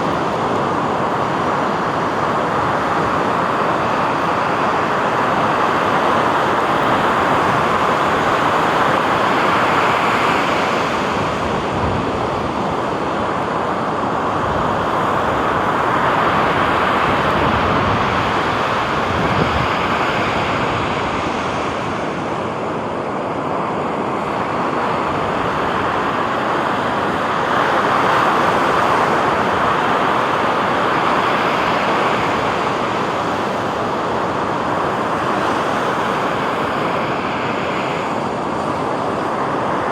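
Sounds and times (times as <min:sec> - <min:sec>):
sea surf washing onto beach: 0:00.0 - 0:39.9.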